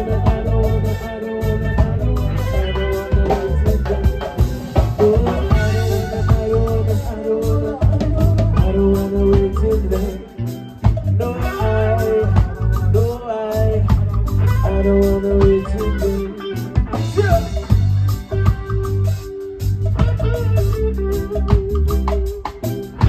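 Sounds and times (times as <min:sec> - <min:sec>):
person singing: 0:00.0 - 0:19.2
live reggae band playing: 0:00.0 - 0:23.0.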